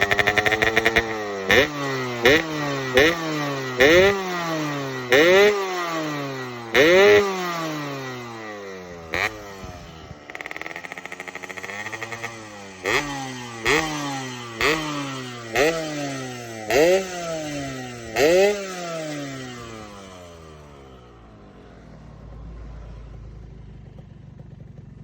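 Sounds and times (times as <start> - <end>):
two-stroke engine revving: 0.0 - 21.5.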